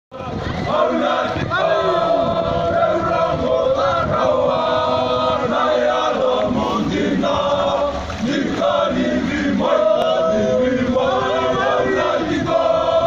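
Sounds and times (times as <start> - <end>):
men chanting and singing: 0.1 - 13.0.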